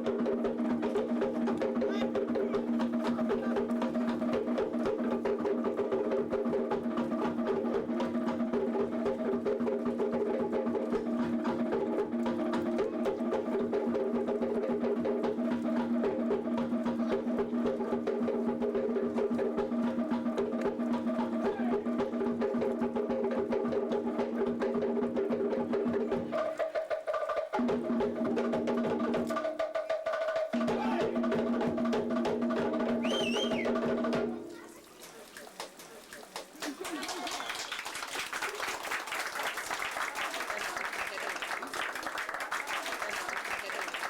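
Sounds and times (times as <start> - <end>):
rapid percussion: 0.0 - 44.0.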